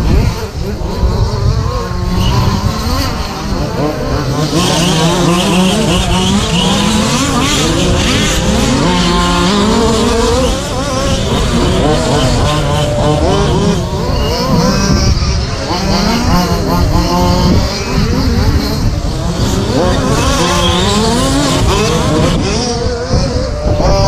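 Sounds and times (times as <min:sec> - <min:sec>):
rc truck motors whining: 0:00.0 - 0:24.0.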